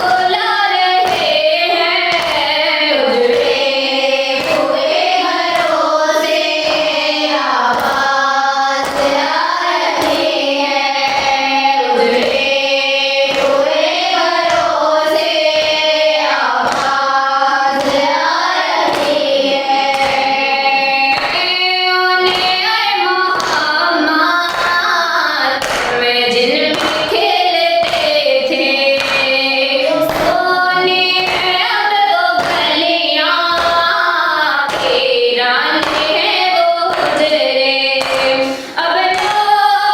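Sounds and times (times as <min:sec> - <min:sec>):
rhythmic chest-beating hand strikes: 0:00.0 - 0:39.9
voices chanting a lament with chorus: 0:00.0 - 0:39.9.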